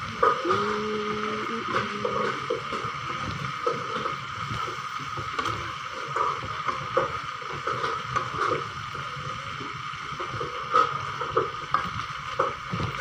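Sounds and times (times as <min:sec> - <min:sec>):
chicken feet sizzling in a pan: 0:00.0 - 0:13.0.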